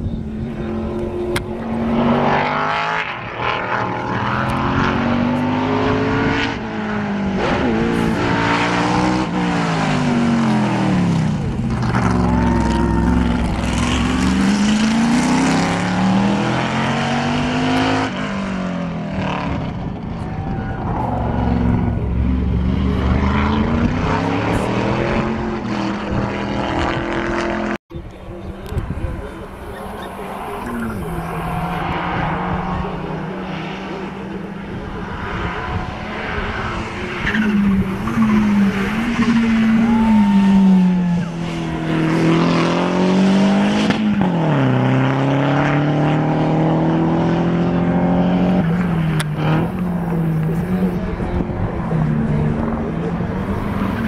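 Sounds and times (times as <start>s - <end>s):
race car engine accelerating: 0.1s - 54.0s.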